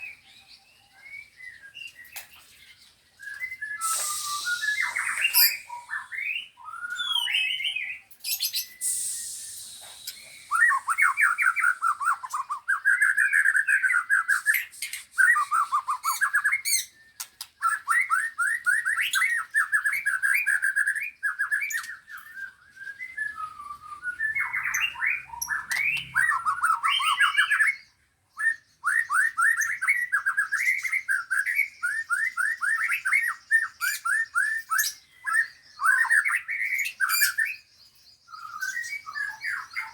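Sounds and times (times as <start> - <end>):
faint high-pitched bird chatter: 0.0 - 39.9
songbirds singing trills: 0.0 - 39.9.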